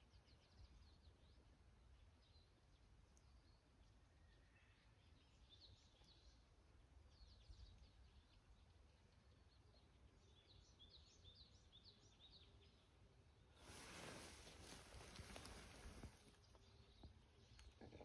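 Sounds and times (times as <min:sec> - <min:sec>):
faint distant bird chirps: 0:00.0 - 0:18.0.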